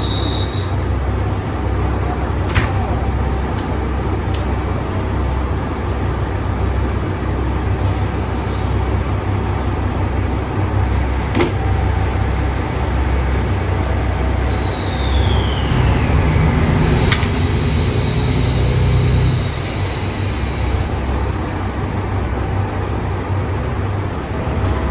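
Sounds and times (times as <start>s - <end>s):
diesel engines idling: 0.0s - 24.9s.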